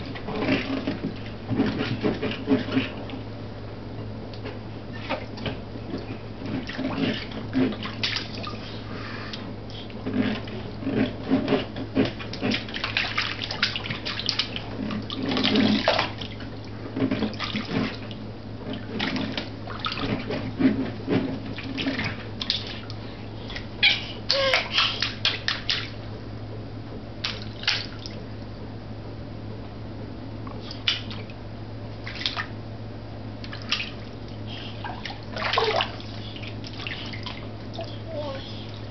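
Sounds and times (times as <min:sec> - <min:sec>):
water splashing in a tub: 0:00.0 - 0:03.3, 0:04.8 - 0:09.0, 0:09.8 - 0:26.1, 0:27.2 - 0:28.4, 0:30.5 - 0:32.6, 0:33.4 - 0:38.9.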